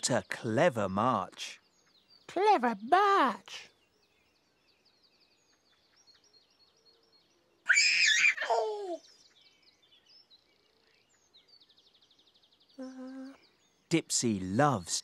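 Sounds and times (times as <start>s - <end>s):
faint birdsong chirping: 0.0s - 15.0s.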